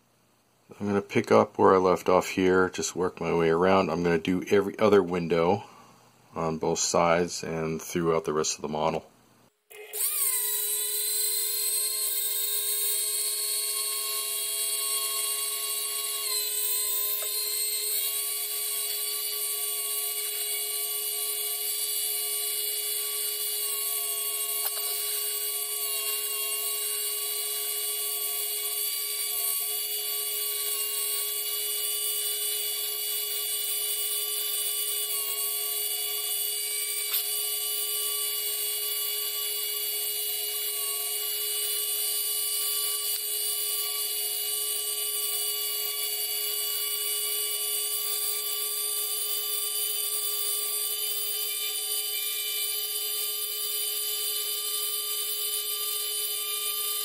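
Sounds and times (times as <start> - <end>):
rotary tool whining: 9.7 - 57.0.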